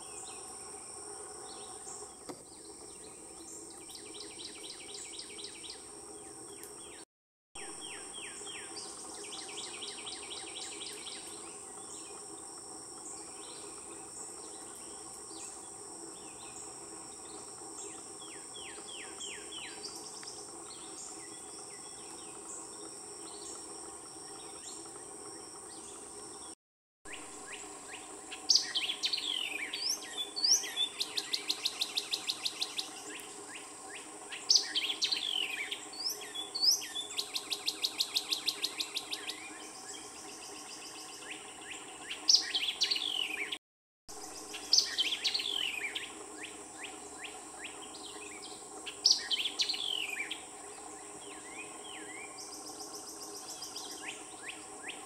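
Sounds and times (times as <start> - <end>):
high insect drone: 0.0 - 7.0, 7.6 - 55.0
songbirds whistling and trilling: 0.0 - 7.0, 7.6 - 55.0.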